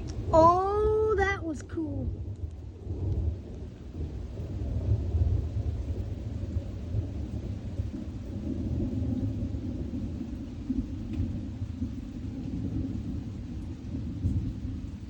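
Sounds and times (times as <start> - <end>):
rain falling: 0.0 - 15.0
thunder rumbling: 0.0 - 15.0.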